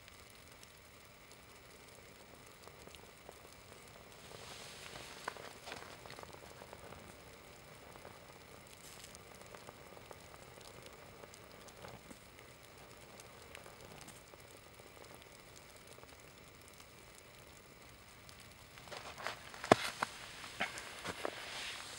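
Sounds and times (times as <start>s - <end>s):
small flames crackling: 0.0s - 21.9s
crunching clicks: 0.1s - 21.9s.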